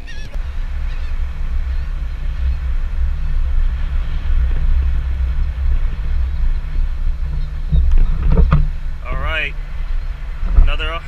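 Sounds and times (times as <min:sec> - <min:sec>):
surf breaking on shore: 0:00.0 - 0:11.0
wind buffeting microphone: 0:00.0 - 0:11.0.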